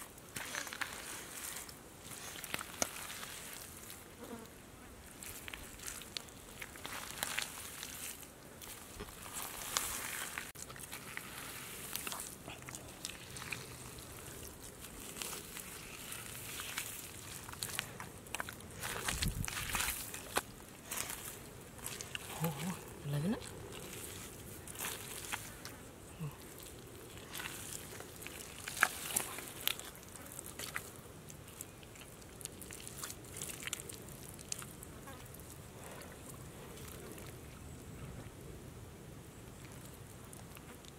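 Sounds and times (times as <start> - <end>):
hands squelching through wet mud: 0.0 - 4.1, 5.0 - 37.9.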